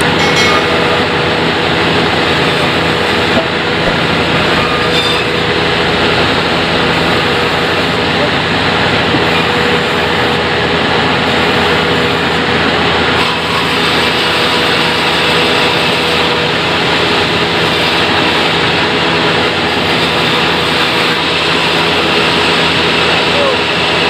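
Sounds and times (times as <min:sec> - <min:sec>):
sawmill sawing wood: 0:00.8 - 0:24.0.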